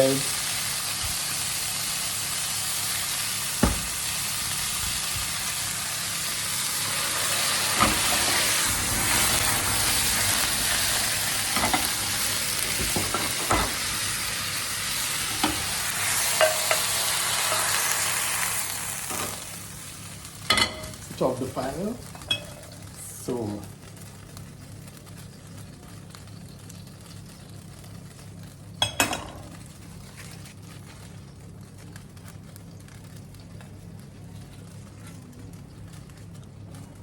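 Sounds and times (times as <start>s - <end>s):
chicken livers sizzling in a frying pan: 0.0s - 36.8s.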